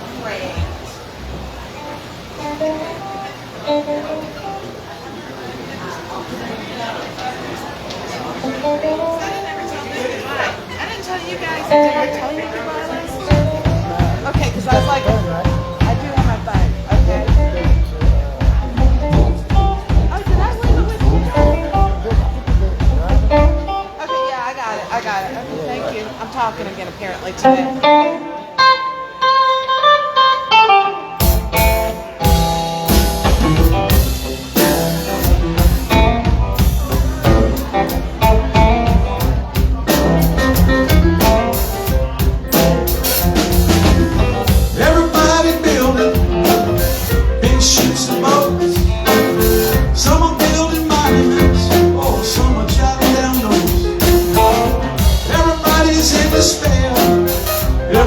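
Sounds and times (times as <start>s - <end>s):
blues-rock band playing: 0.2s - 5.0s, 8.4s - 25.0s, 27.4s - 58.0s
guitar picking notes: 0.6s - 4.8s, 11.7s - 24.9s, 27.4s - 58.0s.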